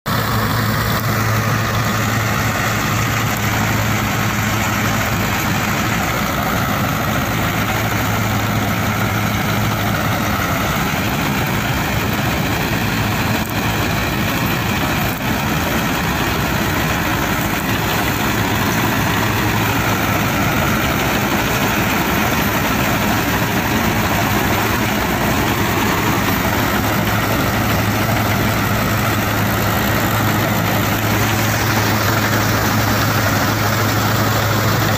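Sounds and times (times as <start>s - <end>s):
reaper cutting machinery: 0.1s - 34.9s
tractor diesel engine droning: 0.1s - 34.9s.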